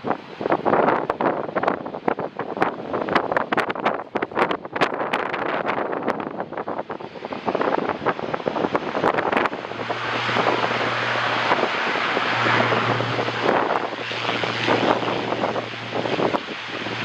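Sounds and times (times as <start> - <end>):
airliner engines running: 0.0 - 17.0
wind buffeting microphone: 0.0 - 17.0.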